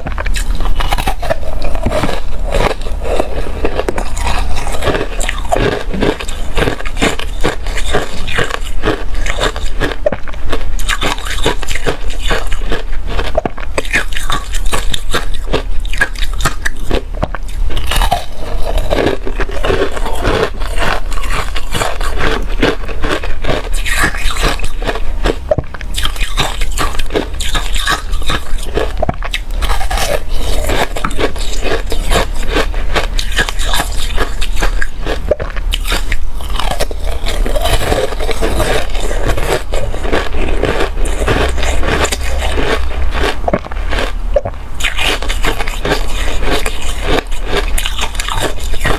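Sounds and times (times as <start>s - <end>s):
person chewing ice: 0.0s - 48.9s.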